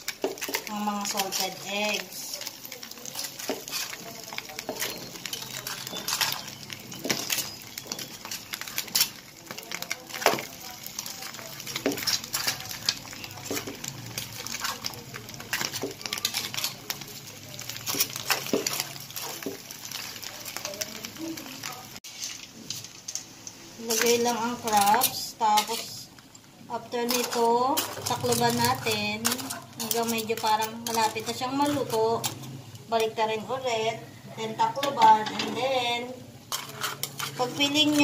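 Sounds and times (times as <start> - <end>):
sauce sizzling and bubbling: 0.0 - 38.0.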